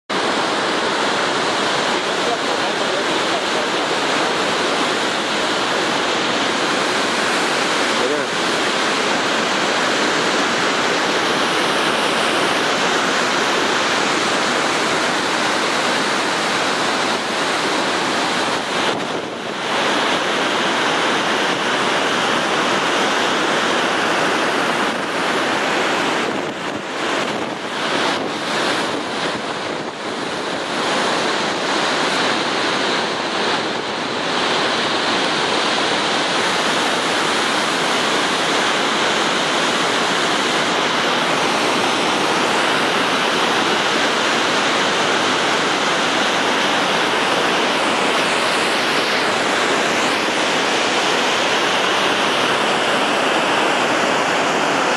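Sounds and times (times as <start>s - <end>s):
waterfall roaring: 0.1s - 54.9s.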